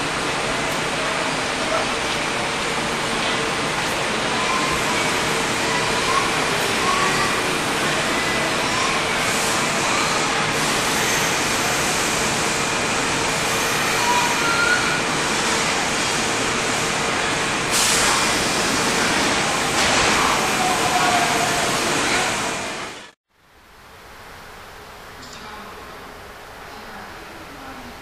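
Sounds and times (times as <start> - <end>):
electric train rolling: 0.0 - 23.2.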